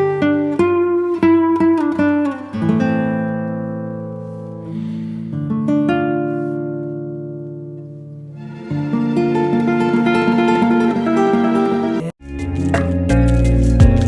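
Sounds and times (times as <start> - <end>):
acoustic guitar music: 0.0 - 12.2.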